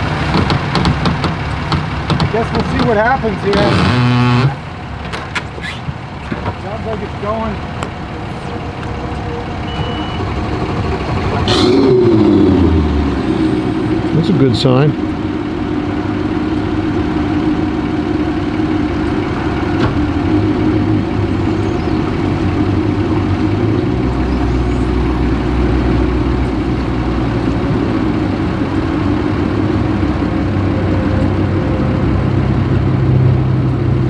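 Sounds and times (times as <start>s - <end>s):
outboard motor idling: 0.0s - 34.0s
deep low hum: 2.3s - 4.8s, 7.5s - 34.0s.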